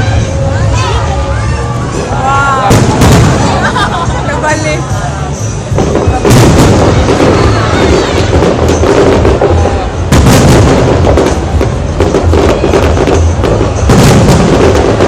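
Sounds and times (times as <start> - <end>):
crowd voices: 0.0 - 15.0
fireworks bursting: 0.0 - 15.0
music playing: 0.0 - 15.0.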